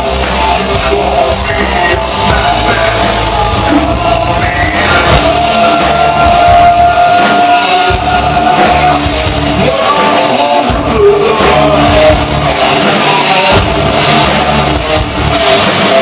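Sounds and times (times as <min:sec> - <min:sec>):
bass guitar: 0:00.0 - 0:16.0
drum kit: 0:00.0 - 0:16.0
electric guitars: 0:00.0 - 0:16.0
man singing into microphone: 0:00.4 - 0:16.0.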